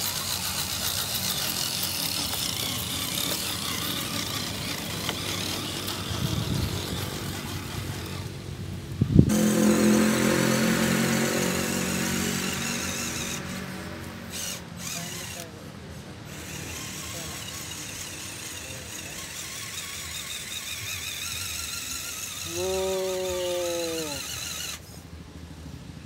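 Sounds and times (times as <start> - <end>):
toy truck motors running: 0.0 - 25.2.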